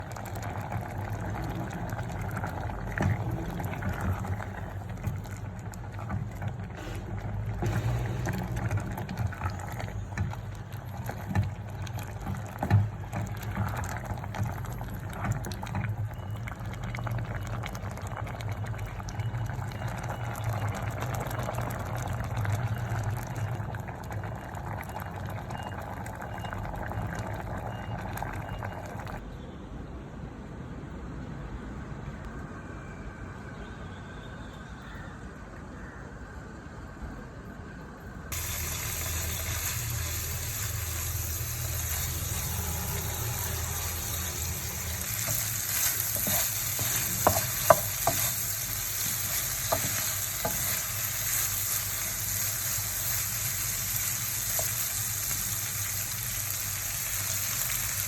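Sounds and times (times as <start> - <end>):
pot of food boiling: 0.0 - 29.2, 38.3 - 58.0.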